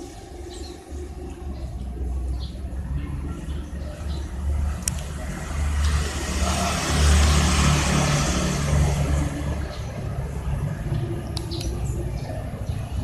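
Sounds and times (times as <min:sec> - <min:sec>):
motor vehicle passing: 0:00.0 - 0:13.0.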